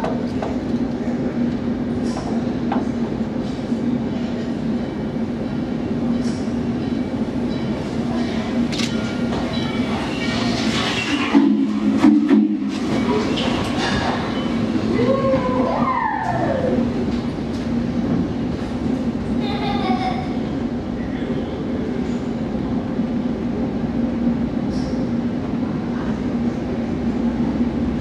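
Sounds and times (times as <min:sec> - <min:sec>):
steam train passing: 0:00.0 - 0:28.0.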